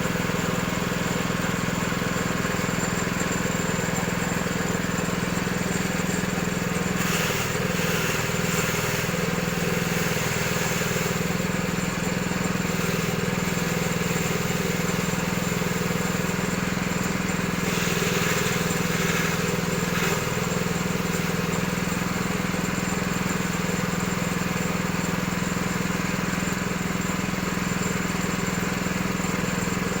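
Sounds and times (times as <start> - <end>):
shredding machine droning: 0.0 - 30.0.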